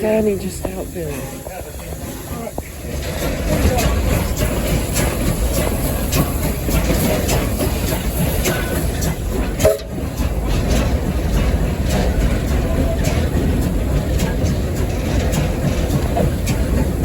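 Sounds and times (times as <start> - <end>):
rail clicks and clanks: 0.0 - 17.0
steam locomotive rumble: 0.0 - 17.0.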